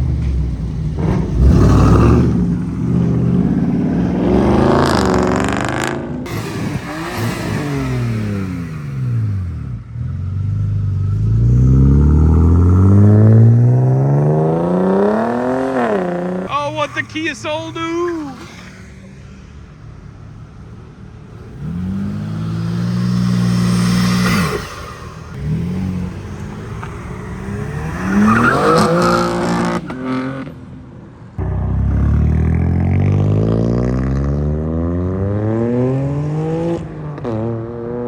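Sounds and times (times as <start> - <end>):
car engines revving: 0.0 - 38.0
car accelerating hard: 1.0 - 16.9, 21.4 - 30.6, 31.4 - 38.0.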